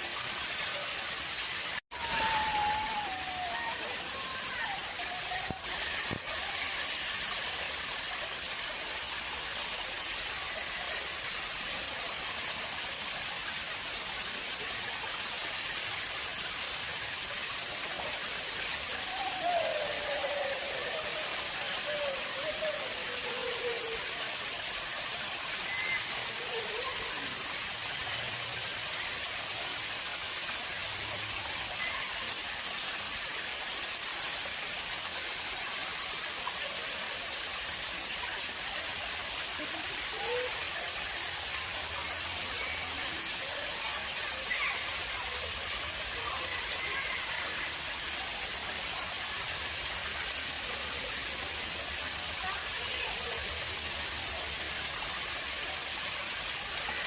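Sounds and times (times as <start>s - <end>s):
water flowing into pond: 0.0s - 57.0s.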